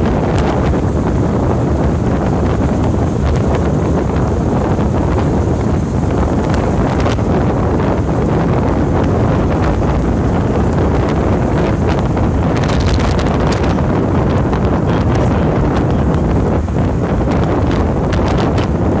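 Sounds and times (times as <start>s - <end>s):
car driving interior rumble: 0.0s - 19.0s
wind buffeting microphone: 0.0s - 19.0s.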